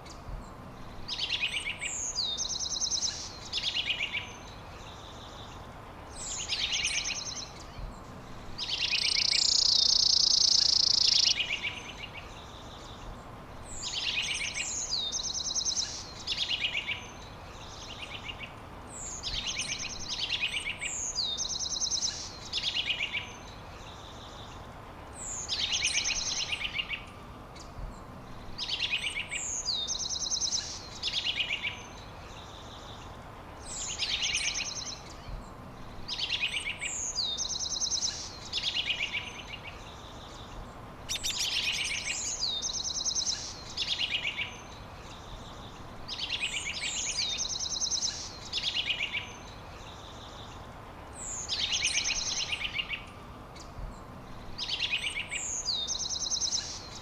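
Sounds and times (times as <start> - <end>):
steady background hiss: 0.0 - 57.0
songbird trill and whistle: 1.0 - 24.6, 25.2 - 27.7, 28.5 - 50.6, 51.2 - 57.0.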